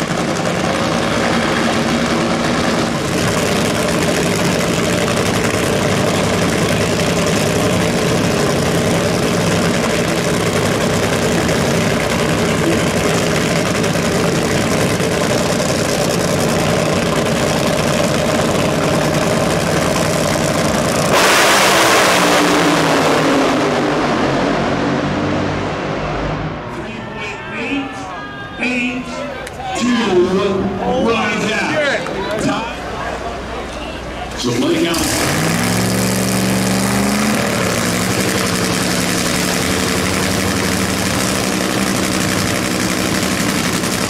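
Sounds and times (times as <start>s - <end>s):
drag racing engines roaring: 0.0s - 44.0s.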